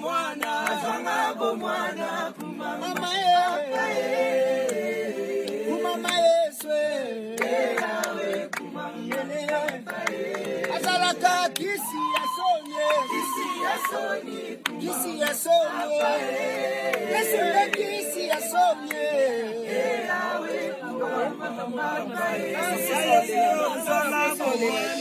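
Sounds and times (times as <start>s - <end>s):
group singing a cappella: 0.0s - 25.0s.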